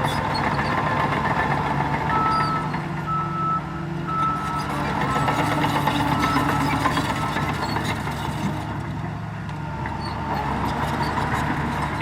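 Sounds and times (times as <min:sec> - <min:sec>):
heavy diesel engines running: 0:00.0 - 0:12.0.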